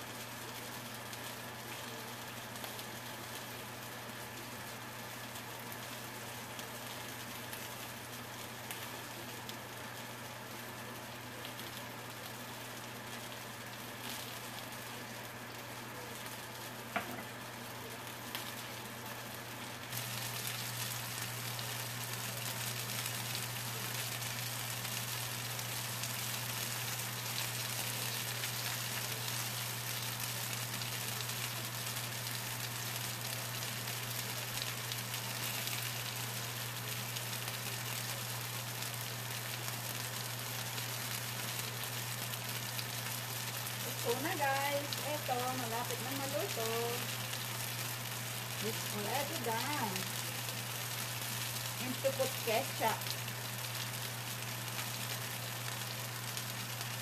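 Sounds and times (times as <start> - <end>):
onion rings sizzling in oil: 0.0 - 57.0.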